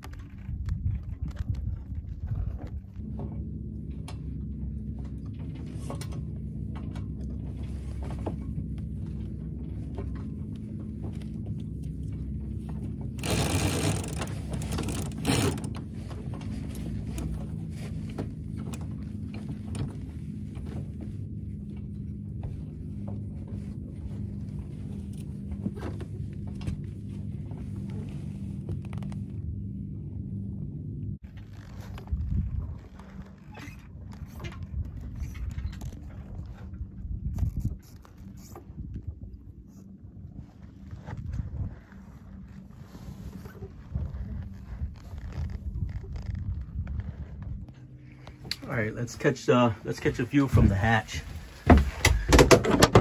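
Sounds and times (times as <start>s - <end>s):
water against sailboat: 0.0s - 53.0s
wind rumble: 0.0s - 53.0s.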